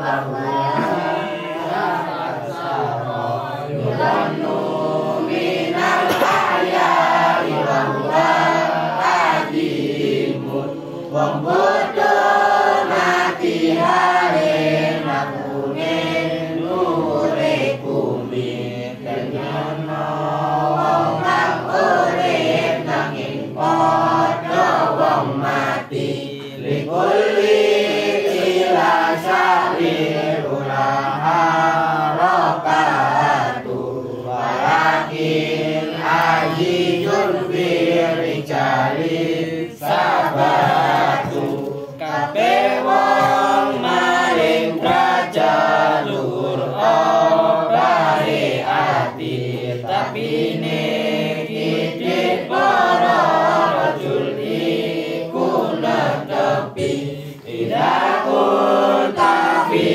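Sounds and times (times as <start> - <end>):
children chanting in unison: 0.0 - 59.9.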